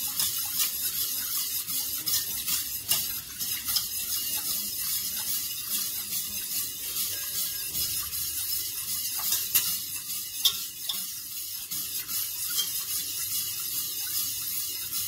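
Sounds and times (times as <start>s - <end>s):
whisk scraping metal pot: 0.0s - 15.0s.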